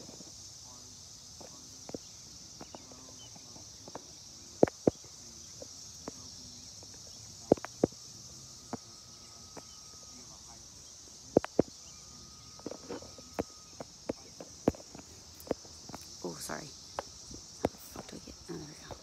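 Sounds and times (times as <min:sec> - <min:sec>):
cicada chorus drone: 0:00.0 - 0:19.0.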